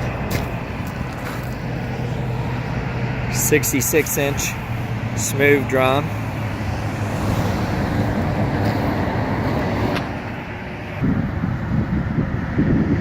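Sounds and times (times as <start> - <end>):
motor vehicle hum: 0.0 - 13.0.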